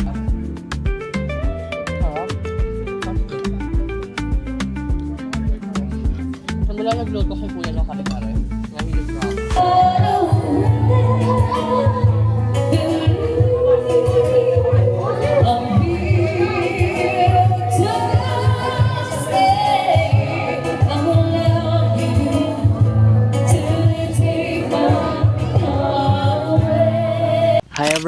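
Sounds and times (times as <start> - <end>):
song with sung vocals and bass: 0.0 - 27.9.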